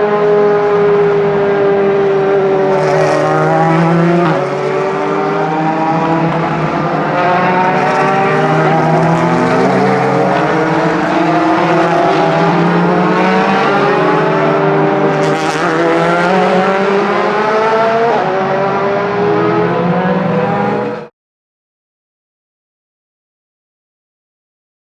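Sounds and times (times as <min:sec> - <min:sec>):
race car engines accelerating: 0:00.0 - 0:21.1.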